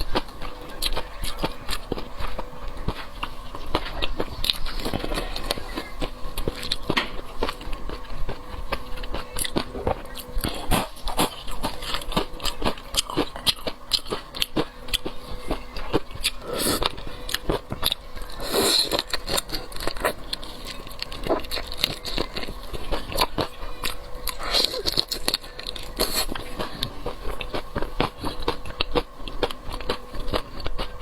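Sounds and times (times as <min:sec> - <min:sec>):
seafood crunched and chewed: 0:00.0 - 0:31.0.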